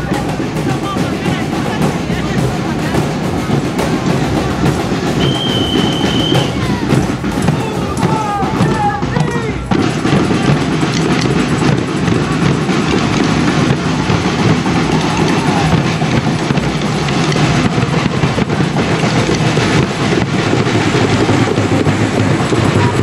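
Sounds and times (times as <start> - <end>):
bass drums: 0.0 - 23.0
snare drums: 0.0 - 23.0.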